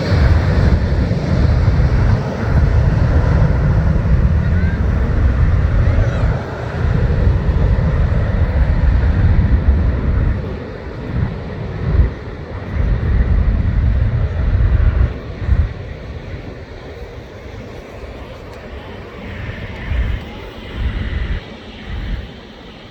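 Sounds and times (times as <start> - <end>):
jet aircraft hiss: 0.0 - 22.9
wind buffeting microphone: 0.0 - 22.9.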